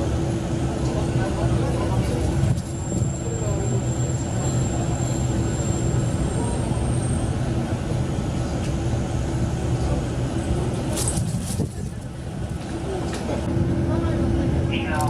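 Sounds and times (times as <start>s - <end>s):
diesel engine drone: 0.0s - 15.0s
rail noise: 0.0s - 15.0s.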